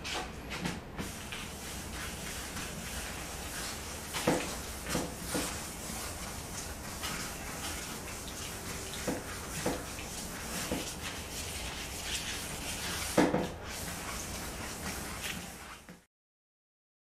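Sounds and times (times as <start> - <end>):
sanding pad scrubbing: 1.0 - 16.0.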